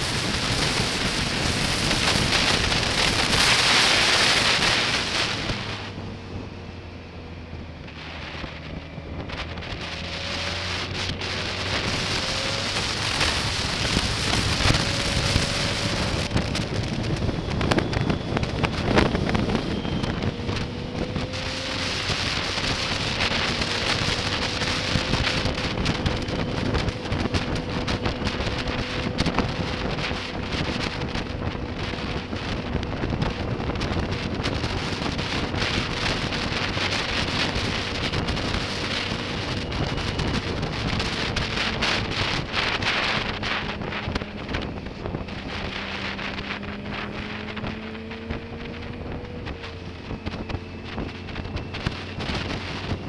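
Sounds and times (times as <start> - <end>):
faint motorcycle engine hum: 0.0 - 53.0
wind buffeting microphone: 0.0 - 53.0.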